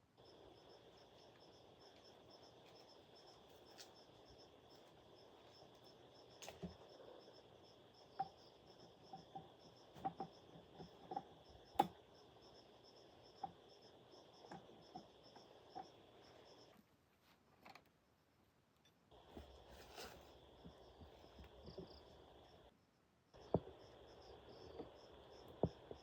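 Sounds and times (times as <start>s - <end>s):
insects trilling: 0.0s - 16.8s, 19.1s - 22.7s, 23.3s - 26.0s
pulsing insect chirp: 0.0s - 16.8s, 19.1s - 26.0s.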